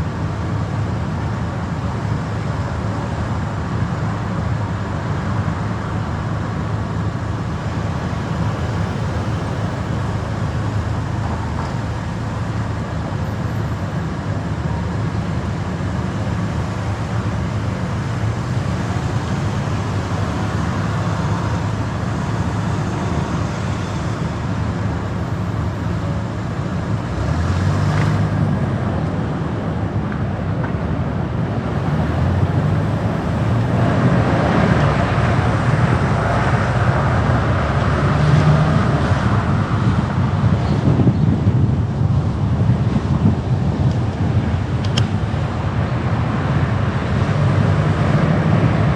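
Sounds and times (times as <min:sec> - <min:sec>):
car engine and tyre noise: 0:00.0 - 0:48.9
passing traffic: 0:00.0 - 0:48.9.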